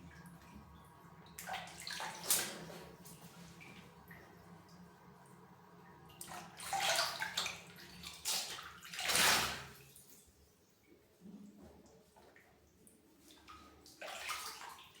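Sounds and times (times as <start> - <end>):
water splashing in a tub: 0.0 - 10.3, 11.5 - 15.0.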